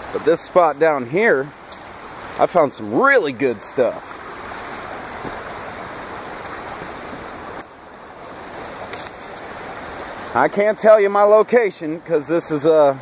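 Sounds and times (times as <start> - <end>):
river rushing over cobbles: 0.0 - 13.0.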